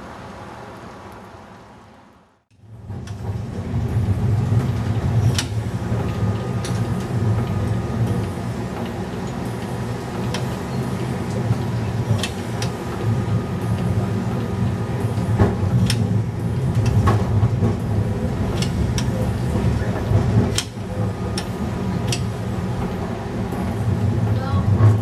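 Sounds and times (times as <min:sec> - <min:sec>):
streetcar rumbling on track: 0:02.6 - 0:25.0.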